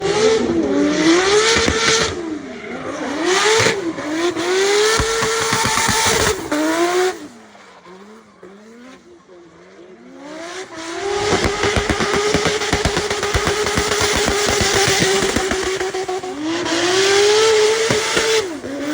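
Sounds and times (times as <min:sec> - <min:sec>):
car engine revving: 0:00.0 - 0:18.9
engine on rev limiter: 0:00.0 - 0:18.9.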